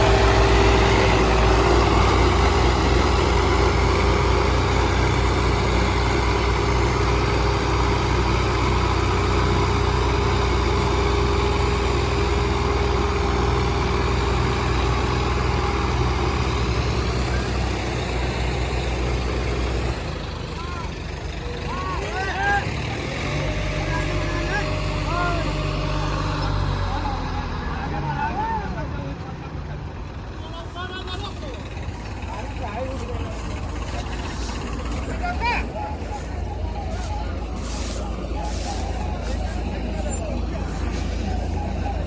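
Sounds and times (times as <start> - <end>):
tractor engines droning: 0.0 - 42.0.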